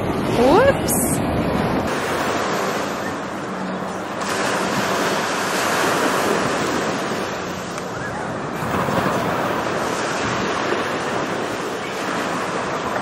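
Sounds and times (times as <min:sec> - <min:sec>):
waves breaking on a beach: 0:00.0 - 0:13.0.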